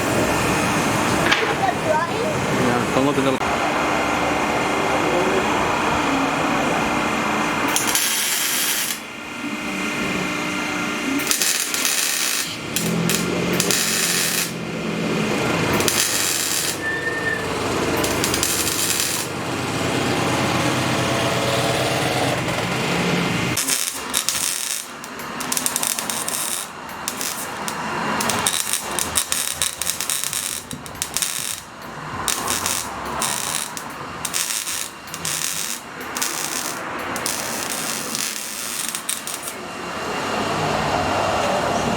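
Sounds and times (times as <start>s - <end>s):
power tool machine drone: 2.3s - 41.9s.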